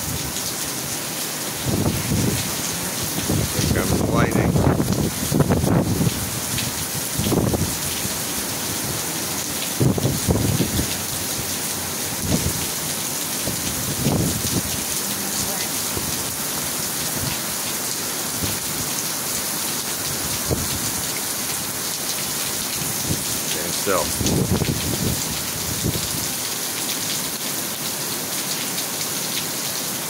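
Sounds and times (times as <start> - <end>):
heavy rain on pavement: 0.0 - 30.0.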